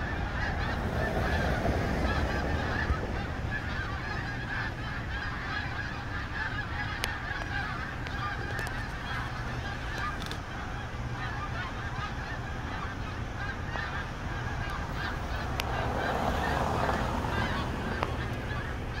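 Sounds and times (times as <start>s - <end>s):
flock of geese honking: 0.0s - 19.0s.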